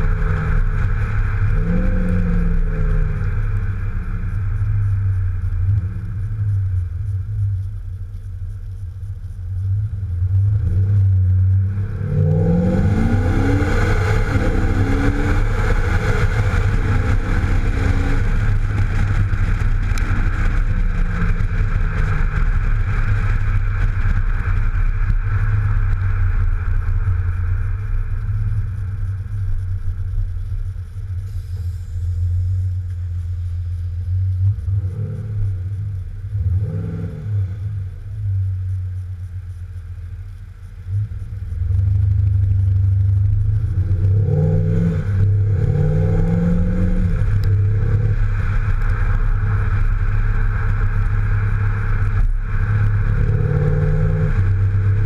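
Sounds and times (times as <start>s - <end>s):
car exhaust drone: 0.0s - 55.0s
wind and tyre noise: 0.0s - 55.0s.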